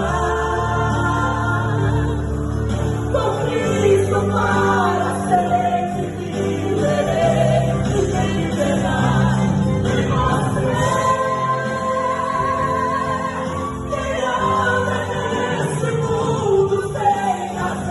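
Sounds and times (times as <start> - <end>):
choir singing a hymn: 0.0 - 17.9.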